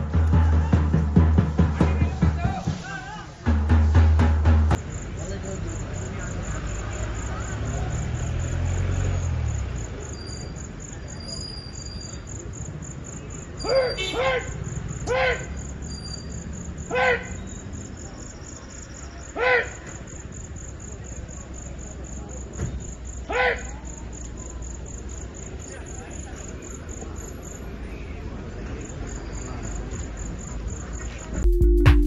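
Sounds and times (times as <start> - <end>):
crickets chirping: 4.7 - 31.4.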